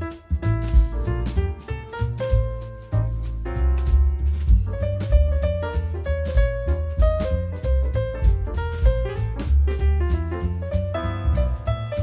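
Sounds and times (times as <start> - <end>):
drum hits: 0.0 - 12.0
piano notes: 0.0 - 12.0
walking bass: 0.0 - 12.0.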